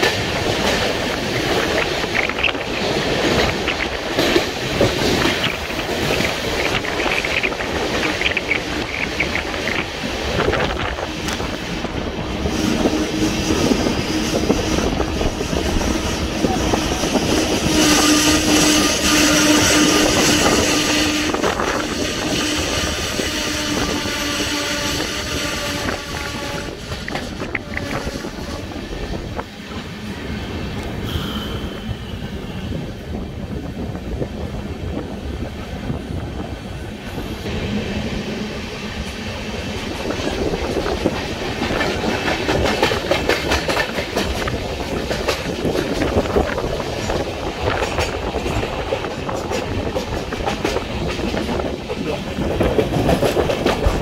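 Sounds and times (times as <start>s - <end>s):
train wheels clattering on track: 0.0s - 54.0s.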